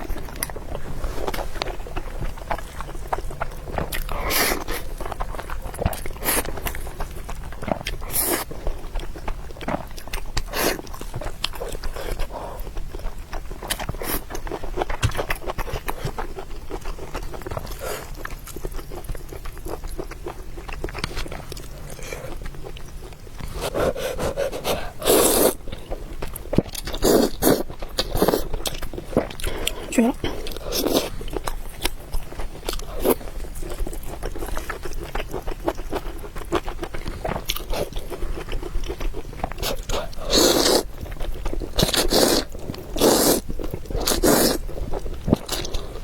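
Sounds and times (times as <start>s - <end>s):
chewing and biting mouth sounds: 0.0s - 46.0s.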